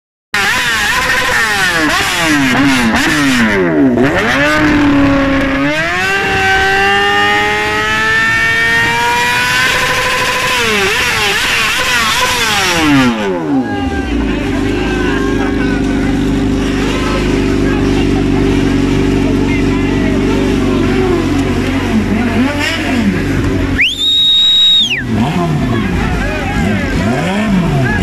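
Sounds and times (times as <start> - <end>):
motorcycle engine revving: 0.4 - 23.8, 24.9 - 28.0.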